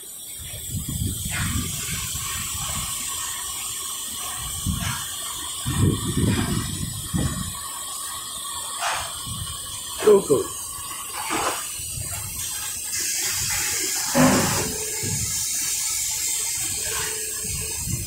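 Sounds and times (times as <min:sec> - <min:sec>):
welding machine hissing: 0:00.0 - 0:18.0.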